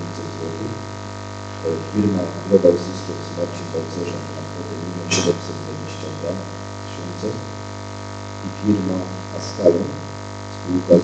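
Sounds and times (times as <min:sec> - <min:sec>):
low voice-like sounds: 0:00.0 - 0:00.8, 0:01.6 - 0:07.5, 0:08.4 - 0:11.0
electrical mains hum: 0:00.0 - 0:11.0.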